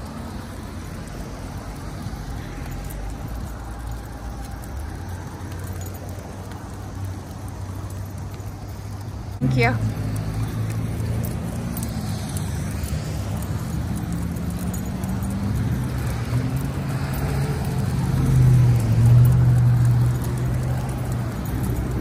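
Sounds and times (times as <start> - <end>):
road traffic: 0.0 - 22.0
vehicle passing close: 0.0 - 22.0.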